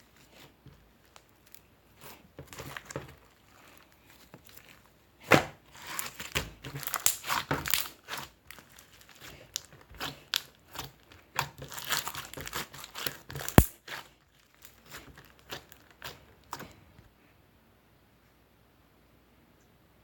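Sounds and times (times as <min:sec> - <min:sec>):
material crinkling and rustling: 0:00.0 - 0:16.8.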